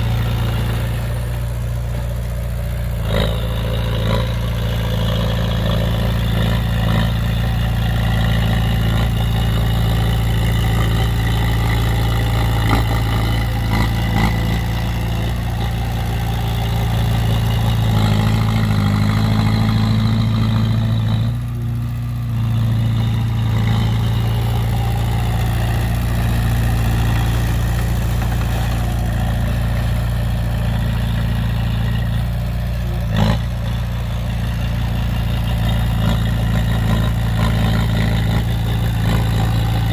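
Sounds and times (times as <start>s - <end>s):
heavy vehicle engine humming: 0.0s - 39.9s.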